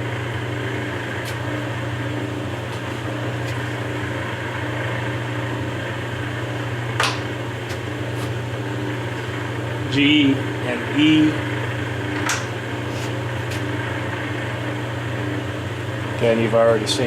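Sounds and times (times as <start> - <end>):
lathe motor humming: 0.0 - 17.0.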